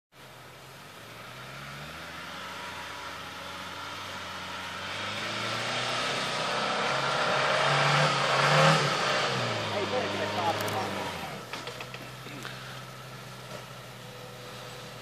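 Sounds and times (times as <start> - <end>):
car engine running under load: 0.1 - 15.0.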